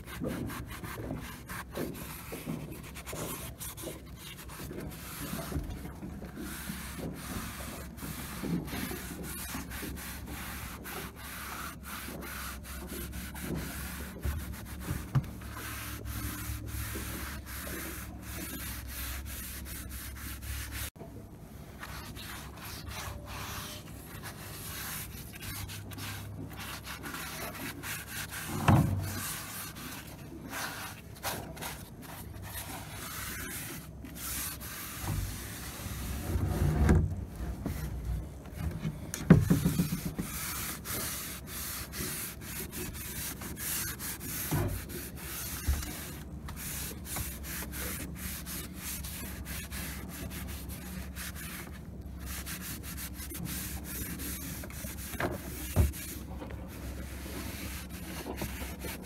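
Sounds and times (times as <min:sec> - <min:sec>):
hand rubbing on wood: 0:00.0 - 0:21.0, 0:21.8 - 0:59.0.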